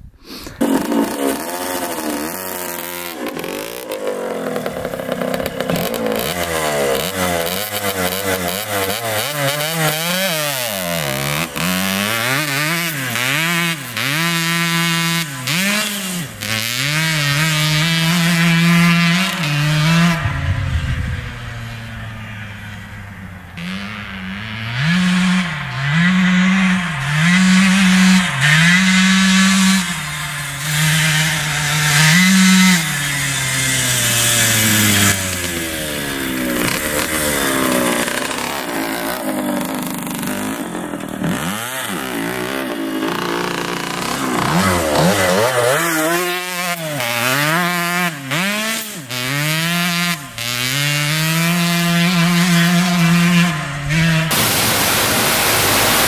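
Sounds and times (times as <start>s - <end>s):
dirt bike engine revving: 0.3s - 56.0s.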